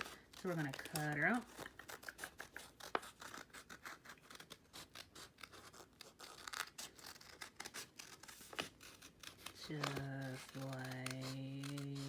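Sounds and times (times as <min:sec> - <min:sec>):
paper rustling: 0:00.0 - 0:12.0
scissors snipping paper: 0:00.0 - 0:12.0.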